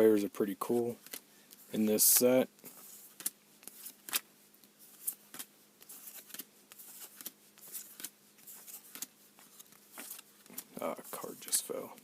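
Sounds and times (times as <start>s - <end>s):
cards clicking and rustling: 1.0s - 12.0s.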